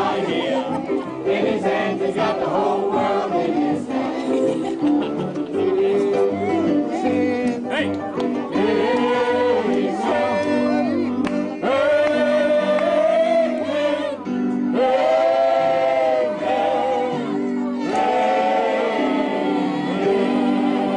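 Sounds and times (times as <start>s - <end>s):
group singing long notes: 0.0s - 20.9s.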